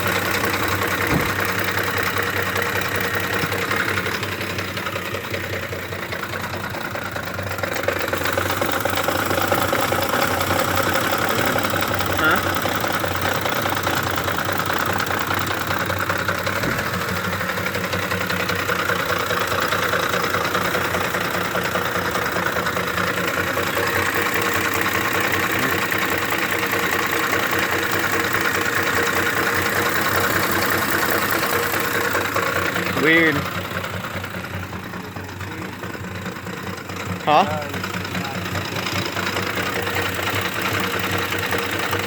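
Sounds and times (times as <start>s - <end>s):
engine idling roughly with chatter: 0.0s - 42.0s.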